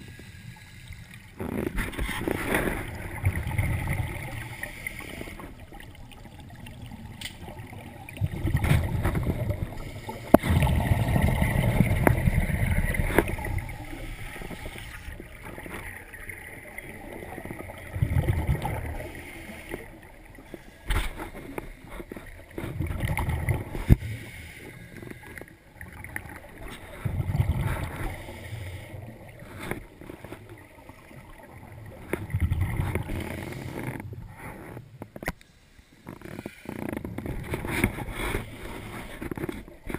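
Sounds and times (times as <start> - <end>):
underwater exhaust bubbles rumbling: 1.2 - 24.3, 24.9 - 35.2.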